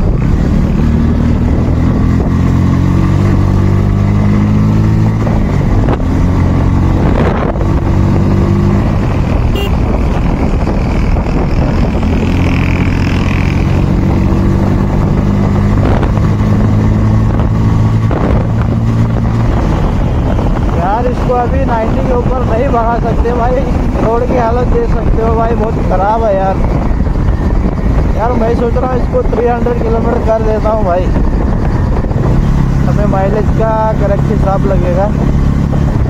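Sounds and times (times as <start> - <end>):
motorcycle engine running hard: 0.0 - 36.0.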